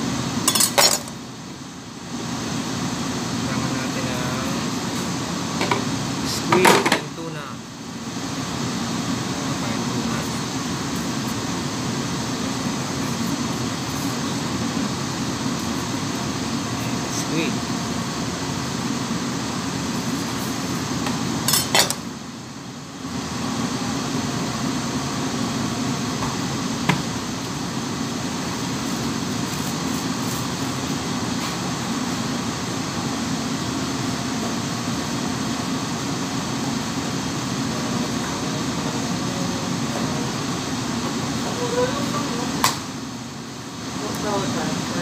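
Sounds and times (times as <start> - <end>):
kitchen mechanical hum: 0.0 - 45.0.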